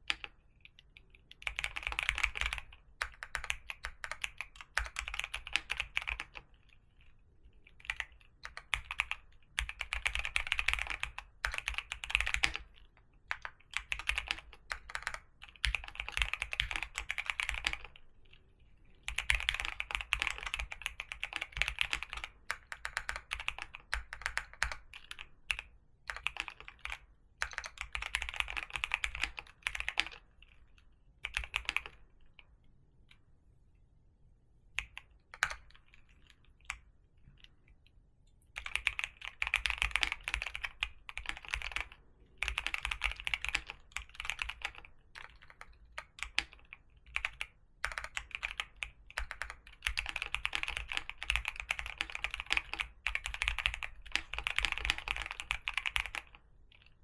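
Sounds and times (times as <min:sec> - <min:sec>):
typing on computer keyboard: 0:00.0 - 0:30.6, 0:31.2 - 0:32.1, 0:34.8 - 0:36.8, 0:38.6 - 0:57.0.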